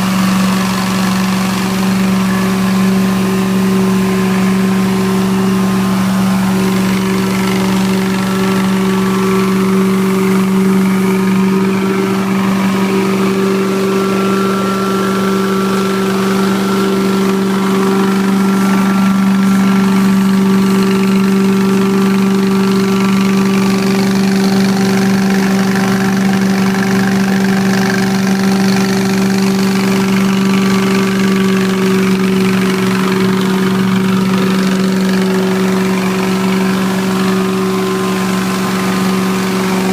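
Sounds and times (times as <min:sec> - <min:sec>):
motor hum: 0:00.0 - 0:39.9.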